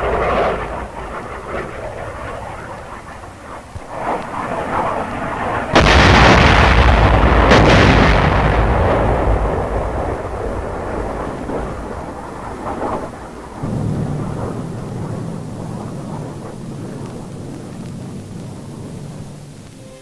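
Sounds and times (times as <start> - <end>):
large explosion: 0.0 - 19.7
sharp crack: 0.0 - 19.8
deep rumble: 0.0 - 20.0.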